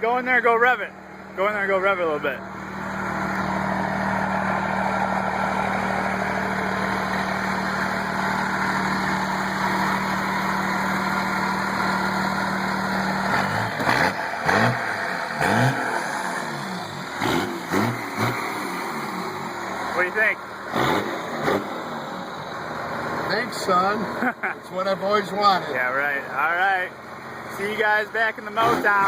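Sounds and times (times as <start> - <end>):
diesel engine idling and revving: 0.0 - 29.0.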